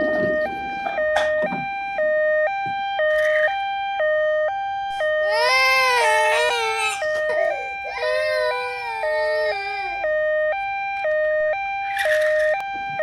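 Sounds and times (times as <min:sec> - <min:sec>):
two-tone ambulance siren: 0:00.0 - 0:13.0.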